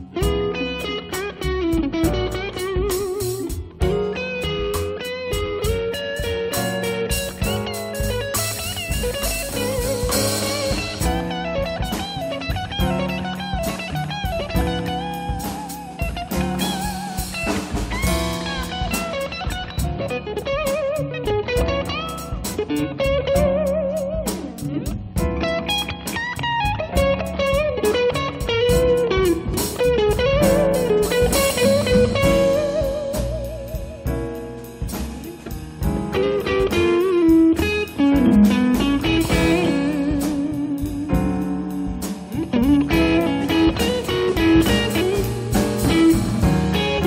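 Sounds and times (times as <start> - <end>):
cymbals keeping a beat: 0.0 - 25.4, 26.4 - 47.0
jazz combo playing blues: 0.0 - 47.0
lead line with sliding notes: 0.0 - 47.0.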